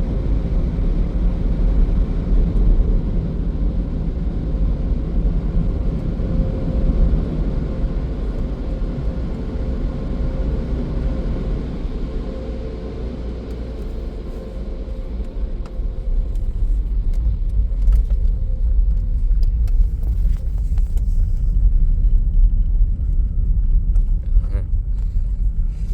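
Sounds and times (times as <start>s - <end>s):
deep car rumble: 0.0s - 25.9s
faint hum: 0.0s - 25.9s.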